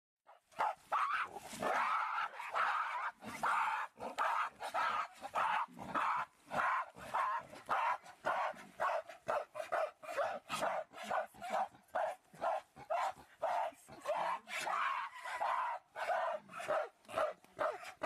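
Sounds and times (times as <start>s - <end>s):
animal barking: 0.5s - 18.0s.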